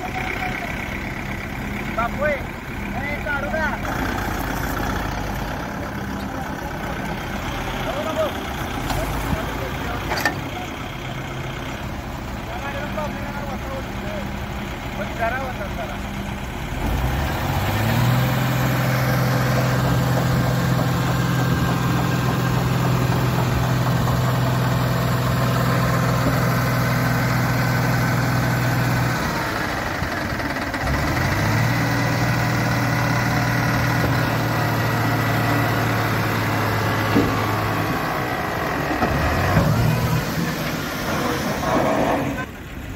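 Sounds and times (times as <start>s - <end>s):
diesel engine revving: 0.0s - 42.9s.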